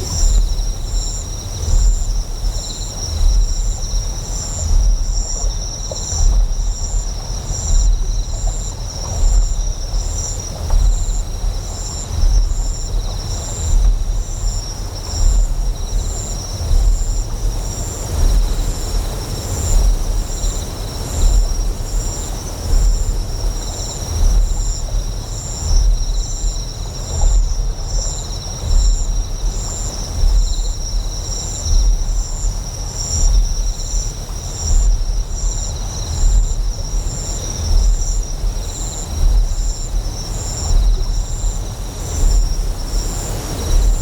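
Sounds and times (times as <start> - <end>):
deep generator hum: 0.0 - 44.0
flowing water hiss: 0.0 - 44.0
insects chirping: 0.0 - 44.0.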